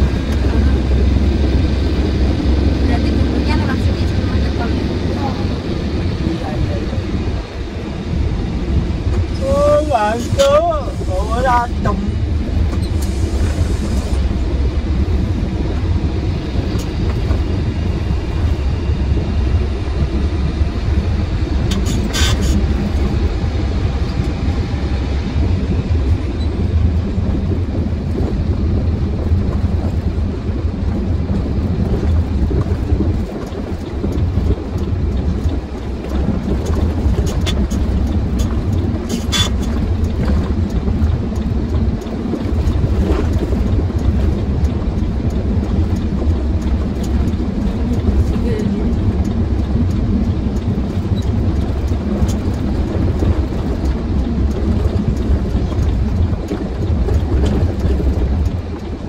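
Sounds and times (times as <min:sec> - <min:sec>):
truck engine and road noise: 0:00.0 - 0:59.0.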